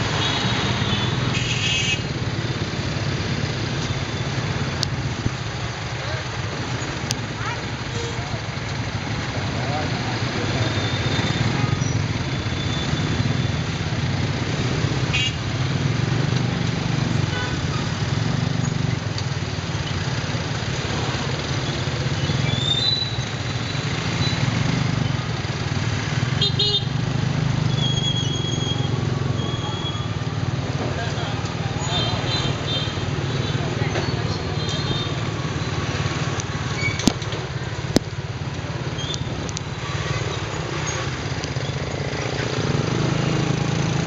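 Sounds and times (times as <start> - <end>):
motorbike traffic: 0.0 - 44.0.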